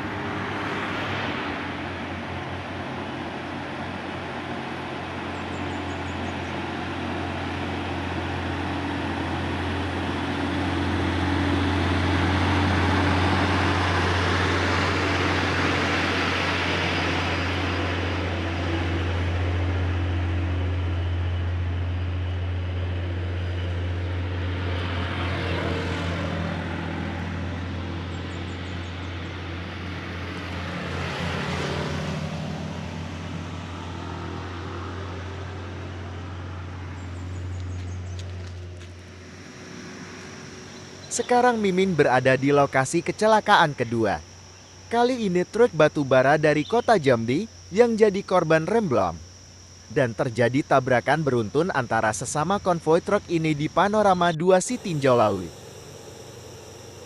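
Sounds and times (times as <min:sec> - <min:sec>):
low engine hum: 0:00.0 - 0:42.0, 0:52.3 - 0:57.0
motor vehicles passing: 0:00.0 - 0:42.7, 0:52.4 - 0:57.0.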